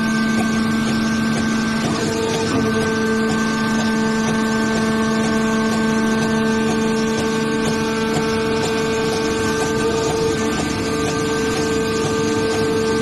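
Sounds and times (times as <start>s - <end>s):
hydraulic baler motor humming: 0.0s - 13.0s.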